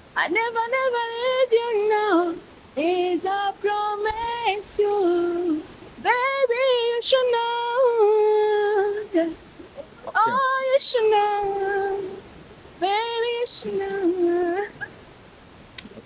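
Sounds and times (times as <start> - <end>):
woman singing unaccompanied: 0.0 - 14.9.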